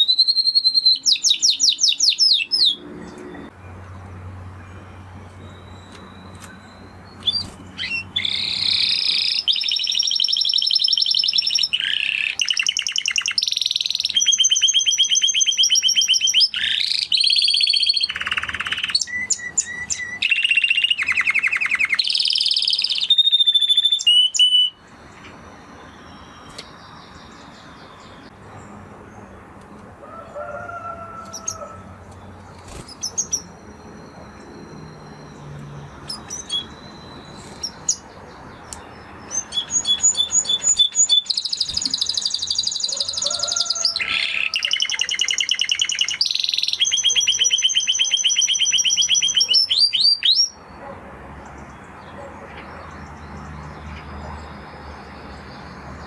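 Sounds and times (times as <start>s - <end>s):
canary singing rapid trills: 0.0s - 3.5s, 4.2s - 29.4s, 31.2s - 50.9s.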